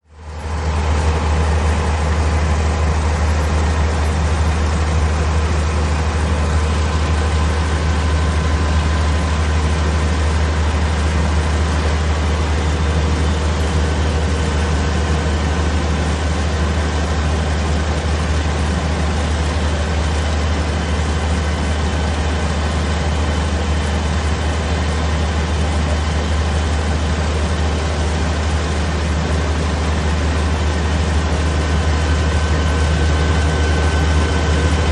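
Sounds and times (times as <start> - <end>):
diesel engine low drone: 0.0 - 34.9.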